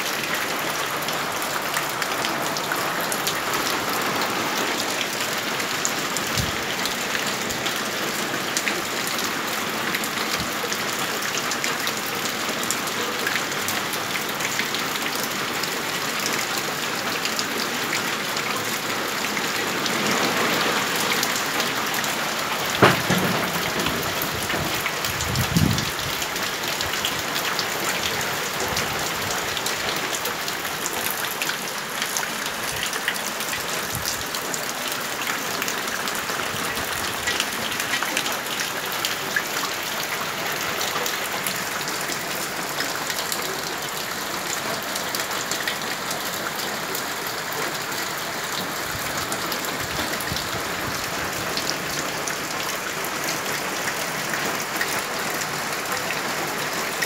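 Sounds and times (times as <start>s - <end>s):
rain falling on roof: 0.0s - 57.0s
water running off roof: 0.0s - 57.0s.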